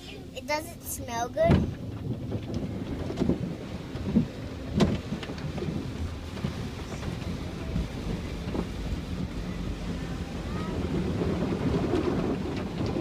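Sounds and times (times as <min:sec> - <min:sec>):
water spraying over a car: 0:01.0 - 0:13.0.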